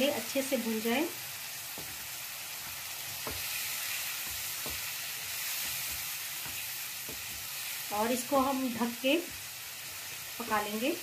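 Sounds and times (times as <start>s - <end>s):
masala sizzling in pan: 0.0s - 11.0s.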